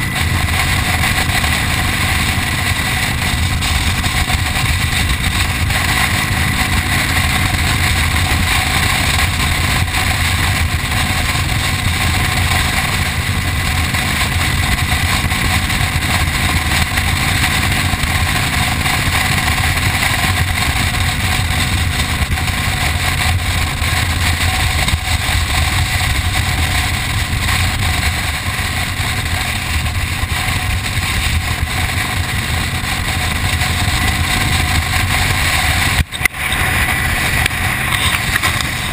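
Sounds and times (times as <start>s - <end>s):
motorcycle engine cruising: 0.0s - 38.9s
road noise: 0.0s - 38.9s.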